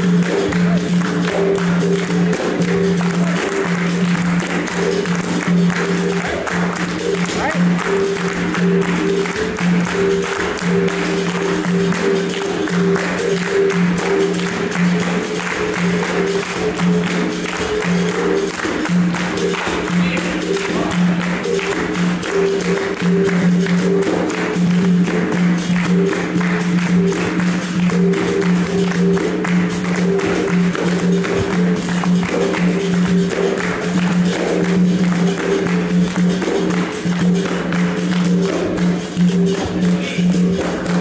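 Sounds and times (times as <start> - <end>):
berimbau notes: 0.0 - 41.0
hand drum: 0.0 - 41.0.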